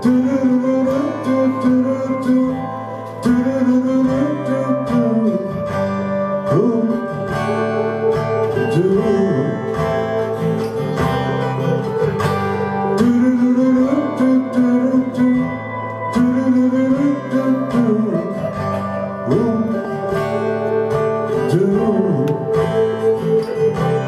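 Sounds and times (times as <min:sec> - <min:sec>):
electric guitar: 0:00.0 - 0:24.0
man singing: 0:00.0 - 0:24.0
strummed acoustic guitar: 0:00.0 - 0:24.0.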